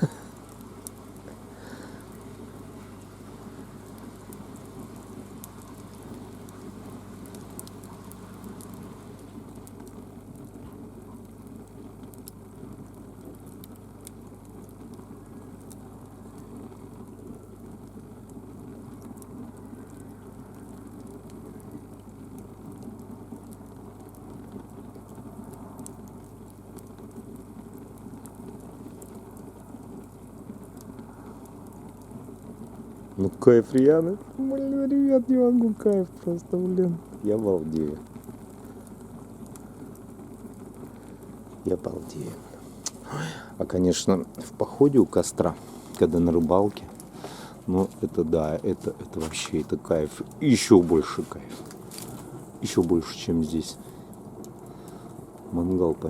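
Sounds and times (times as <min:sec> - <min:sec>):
rush of flame: 0:00.0 - 0:34.4, 0:37.0 - 0:56.0
firewood crackling and popping: 0:00.0 - 0:56.0.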